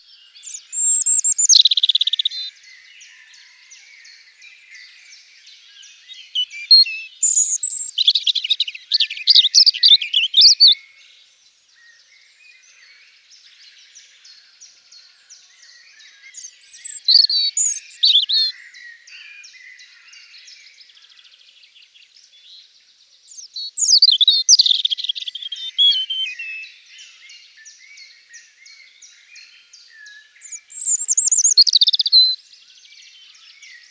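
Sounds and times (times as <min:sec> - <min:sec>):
robin singing: 0:00.0 - 0:10.9, 0:12.5 - 0:33.9
chorus of small birds: 0:00.0 - 0:33.9.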